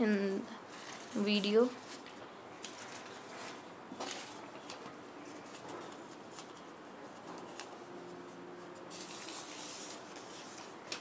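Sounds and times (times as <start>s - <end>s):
paper rustling and crinkling: 0.7s - 11.0s.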